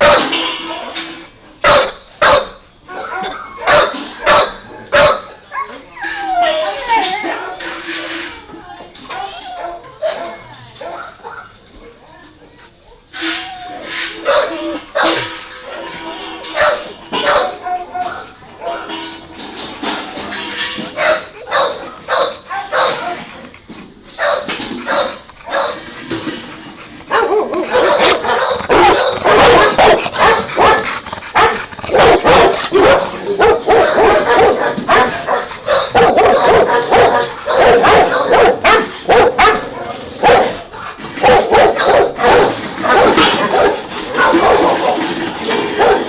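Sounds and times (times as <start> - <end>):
dogs barking and yipping: 0.0 - 7.9, 9.2 - 11.7, 12.6 - 46.0.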